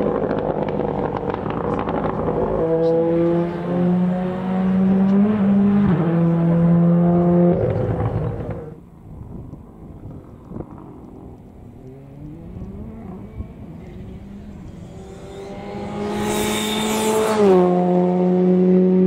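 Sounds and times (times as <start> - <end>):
rally car engine passing: 0.0 - 8.8, 10.0 - 19.0.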